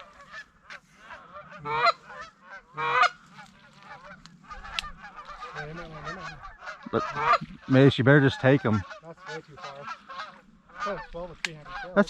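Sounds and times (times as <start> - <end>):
chorus of faint goose honks: 0.0 - 12.0
loud goose honks: 0.0 - 12.0.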